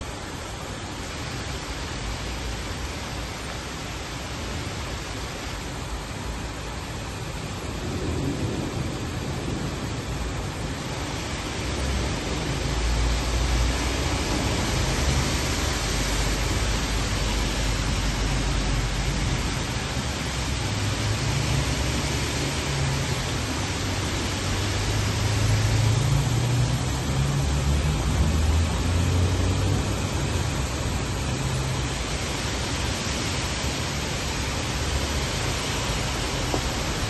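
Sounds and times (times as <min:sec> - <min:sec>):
cars driving through water: 0:00.0 - 0:37.0
heavy rain pouring: 0:00.0 - 0:37.0.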